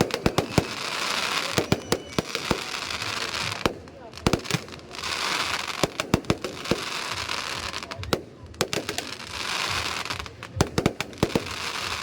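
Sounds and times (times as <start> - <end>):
crackling hiss of fireworks: 0.0 - 12.0
fireworks bangs: 0.0 - 12.0.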